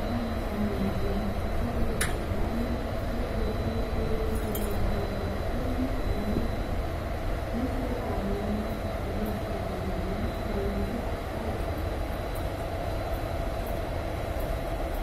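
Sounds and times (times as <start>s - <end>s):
electric locomotive hum: 0.0s - 15.0s.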